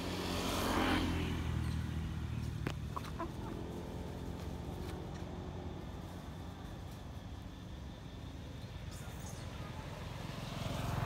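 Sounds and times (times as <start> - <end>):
passing vehicle rumble: 0.0 - 11.0.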